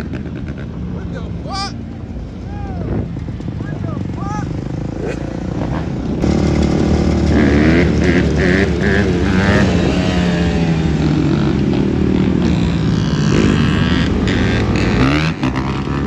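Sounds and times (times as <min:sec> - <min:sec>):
dirt bike engines droning: 0:00.0 - 0:16.0
dirt bike engines revving: 0:00.0 - 0:16.0.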